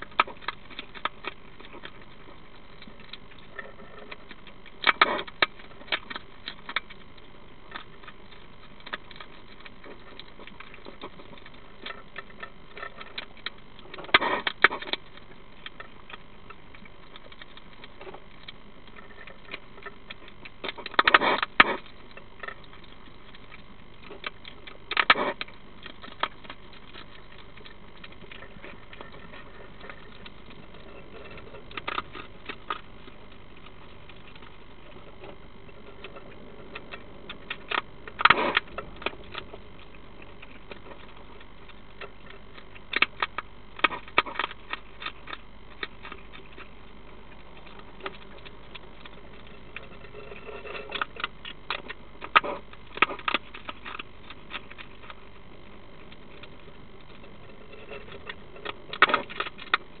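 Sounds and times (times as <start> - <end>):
hedgehog crunching dry food: 0.0 - 60.0.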